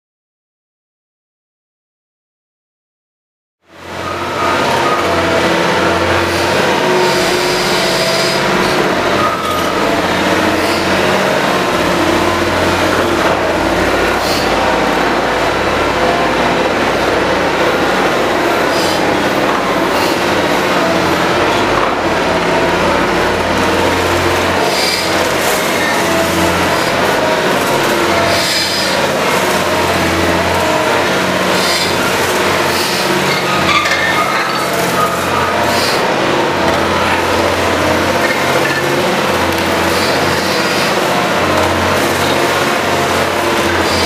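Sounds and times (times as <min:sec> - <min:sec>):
excavator grinding rock: 0:04.0 - 0:44.0.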